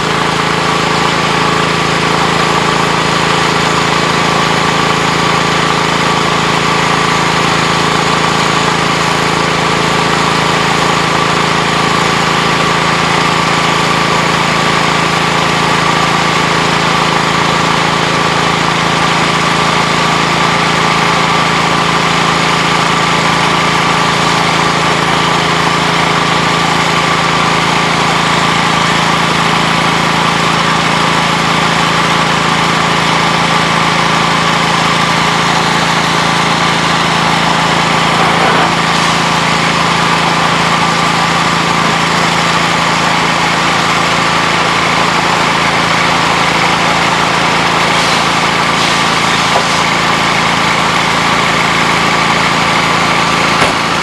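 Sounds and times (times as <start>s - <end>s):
steady mechanical drone: 0.0s - 54.0s.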